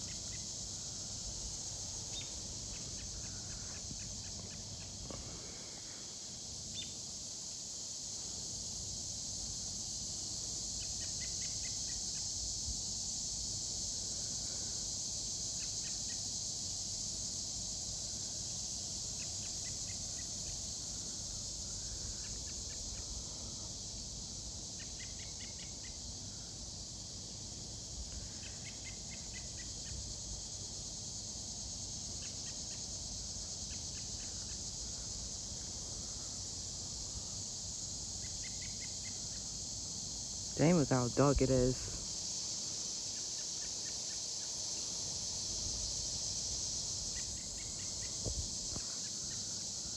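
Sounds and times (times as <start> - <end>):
cicadas buzzing: 0.0 - 49.9.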